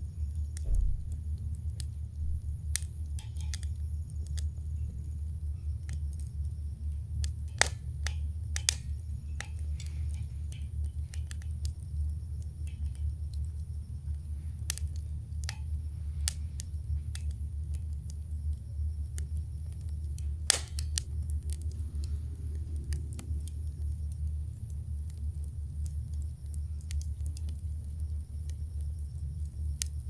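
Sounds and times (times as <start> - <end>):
campfire crackling and popping: 0.0 - 30.0
steady low rumble: 0.0 - 30.0.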